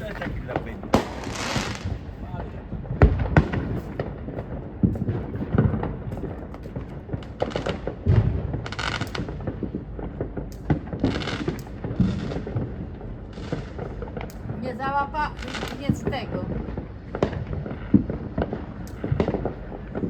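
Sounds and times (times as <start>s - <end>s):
fireworks hissing bursts: 0.0s - 2.6s, 3.2s - 20.0s
fireworks loud bang: 0.0s - 20.0s
fireworks pops and cracks: 0.0s - 20.0s.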